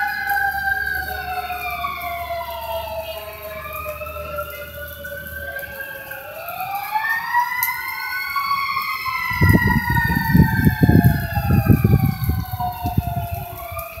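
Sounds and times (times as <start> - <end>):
sirens wailing: 0.0 - 14.0.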